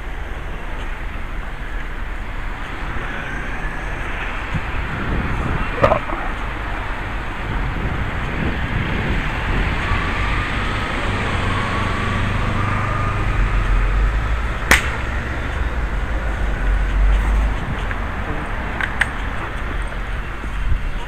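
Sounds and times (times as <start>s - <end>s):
street noise with low rumble: 0.0s - 21.0s.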